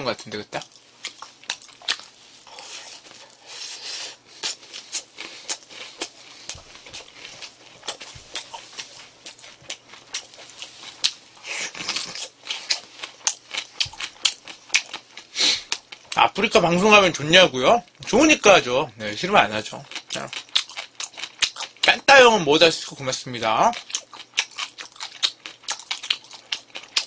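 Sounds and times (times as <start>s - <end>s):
chewing crunchy fried food: 0.4s - 17.2s, 19.1s - 27.0s.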